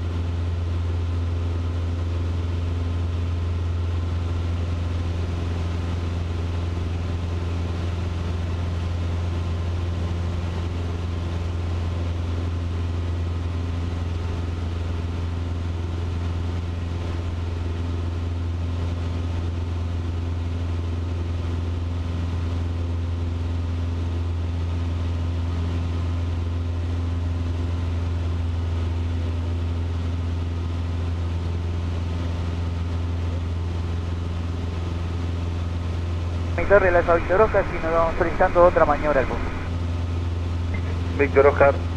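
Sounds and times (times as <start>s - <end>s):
airplane engine and propeller drone: 0.0s - 41.9s.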